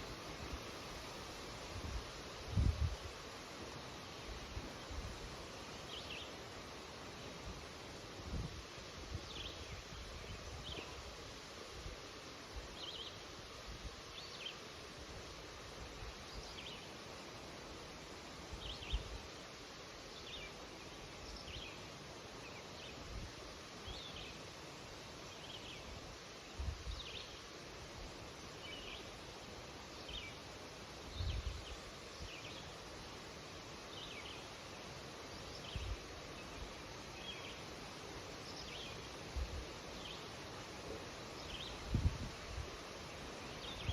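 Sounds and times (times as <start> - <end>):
wind rustling leaves: 0.0 - 43.9.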